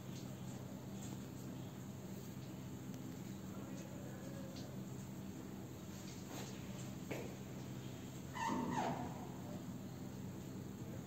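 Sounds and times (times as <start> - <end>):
low hum and faint hiss: 0.0 - 11.0.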